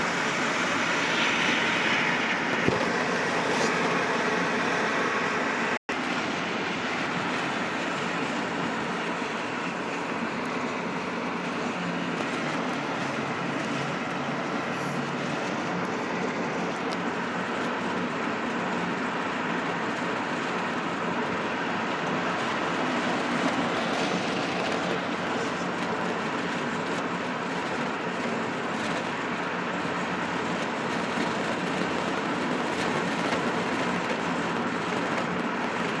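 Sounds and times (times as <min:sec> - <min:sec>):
car tyre and wind noise: 0:00.0 - 0:36.0.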